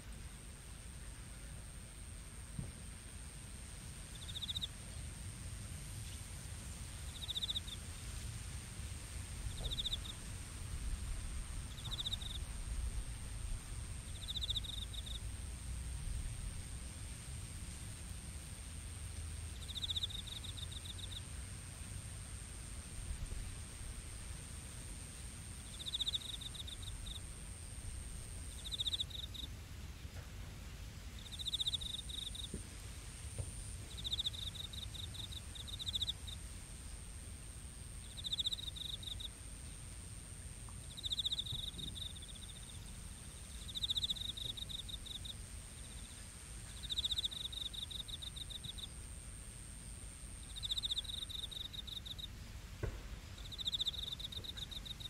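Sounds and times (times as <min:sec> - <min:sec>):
crickets chirping in trills: 0:00.0 - 0:55.0
low background rumble: 0:00.0 - 0:55.0.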